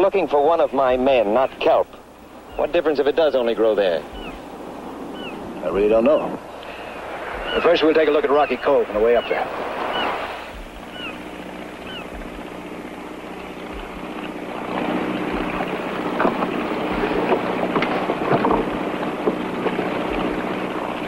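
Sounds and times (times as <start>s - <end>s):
motorboat engine humming: 0.0s - 21.0s
water rushing along hull: 0.0s - 21.0s
spray splashing: 2.5s - 21.0s.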